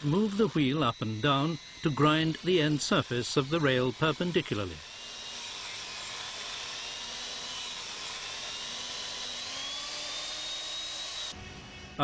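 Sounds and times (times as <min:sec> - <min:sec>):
grinding wheel on steel: 0:00.0 - 0:11.4.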